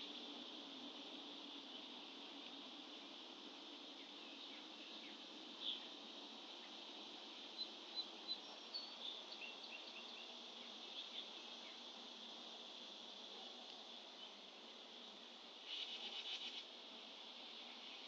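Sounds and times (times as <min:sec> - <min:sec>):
faint high hiss: 0:00.0 - 0:18.0
songbirds chirping: 0:00.0 - 0:18.0.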